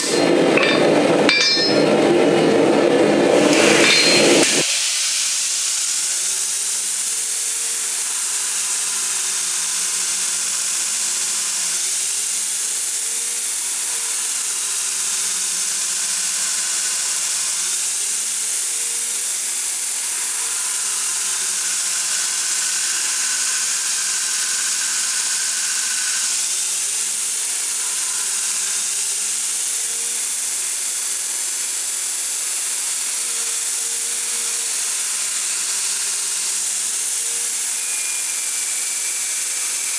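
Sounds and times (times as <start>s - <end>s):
power tool running: 0.0s - 39.9s.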